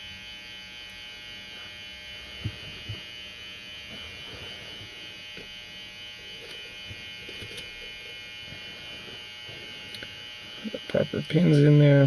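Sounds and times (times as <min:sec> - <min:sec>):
electrical buzz with high whine: 0:00.0 - 0:12.0.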